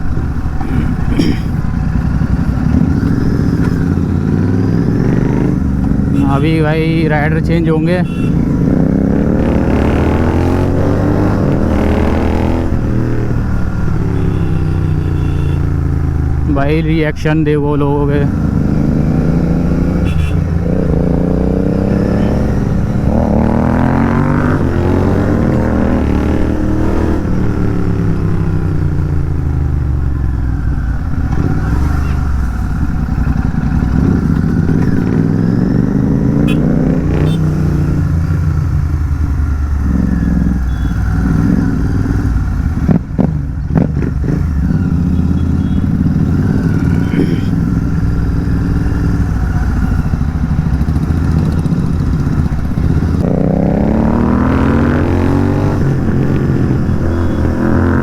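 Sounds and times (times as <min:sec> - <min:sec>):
motorcycle engine revving through gears: 0:00.0 - 0:17.0, 0:17.8 - 0:58.0.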